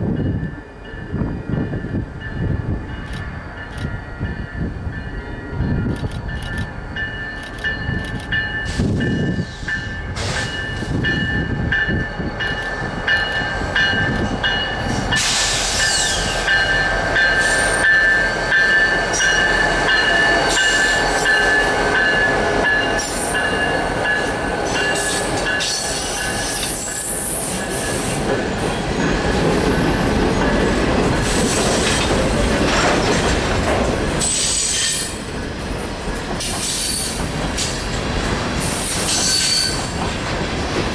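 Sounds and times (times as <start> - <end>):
train wheels squealing: 0.2 - 32.6, 34.2 - 35.4, 36.2 - 38.0, 38.6 - 40.1.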